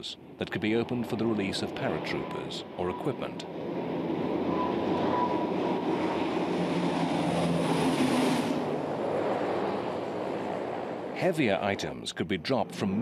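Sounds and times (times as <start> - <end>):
turboprop engines running: 0.0 - 13.0
thin engine whine: 0.6 - 11.3.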